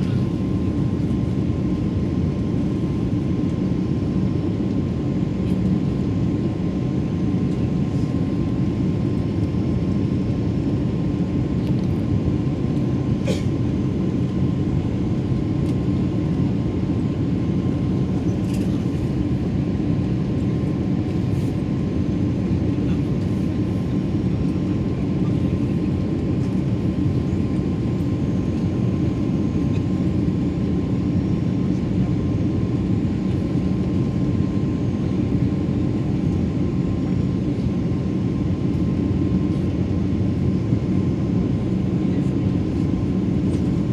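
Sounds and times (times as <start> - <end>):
airplane cabin engine drone: 0.0 - 43.9.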